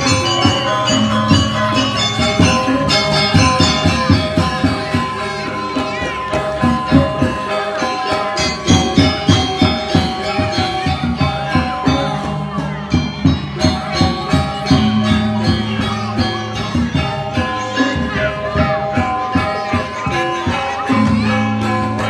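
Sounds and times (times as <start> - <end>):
gamelan orchestra playing: 0.0 - 22.0.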